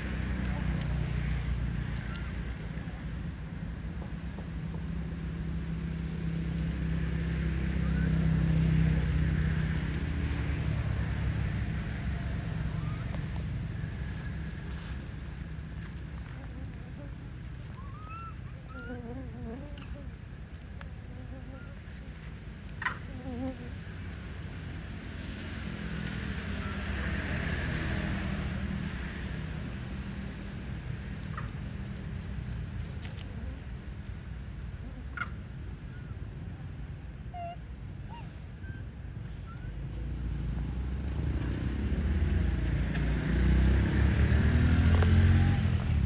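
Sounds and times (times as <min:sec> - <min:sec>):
insects buzzing: 0:00.0 - 0:46.0
vehicle engine hum passing: 0:00.0 - 0:46.0.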